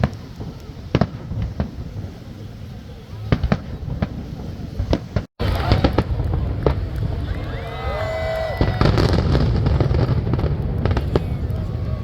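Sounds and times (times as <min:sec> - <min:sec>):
fireworks bursting and crackling: 0:00.0 - 0:12.0
low rumble of explosions: 0:00.0 - 0:12.0.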